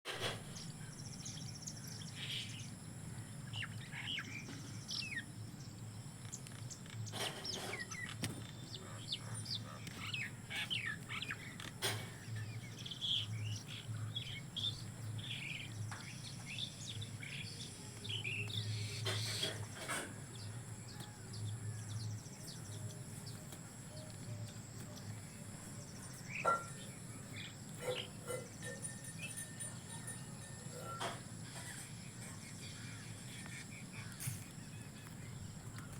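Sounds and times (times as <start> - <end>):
wild birds chirping: 0.1 - 35.9.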